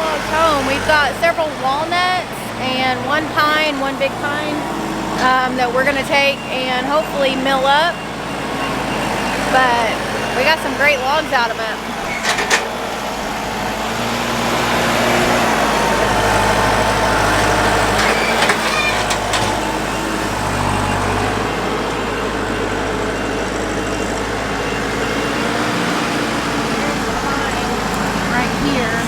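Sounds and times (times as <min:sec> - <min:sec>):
road noise: 0:00.0 - 0:29.0
vehicle engine humming: 0:00.0 - 0:29.0.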